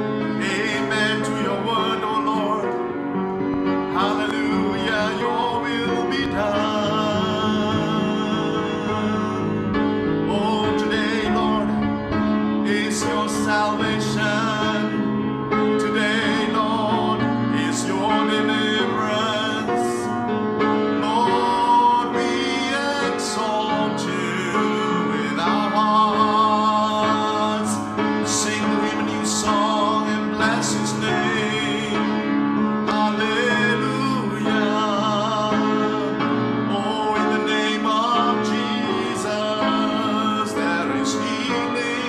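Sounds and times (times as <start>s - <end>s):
person singing slow melody: 0.0s - 2.9s, 3.6s - 20.2s, 21.0s - 42.0s
piano: 0.0s - 42.0s
sustained keyboard chords: 0.0s - 42.0s.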